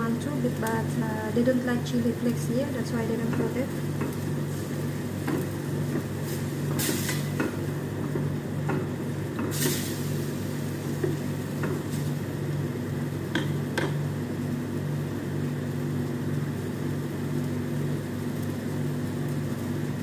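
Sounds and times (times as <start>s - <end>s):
steady low hum: 0.0s - 20.0s
meat sizzling: 0.2s - 20.0s.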